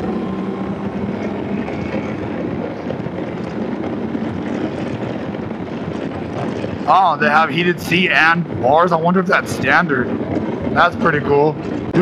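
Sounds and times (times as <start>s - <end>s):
motorcycle engine drone: 0.0s - 12.0s
wind rush on microphone: 0.0s - 12.0s.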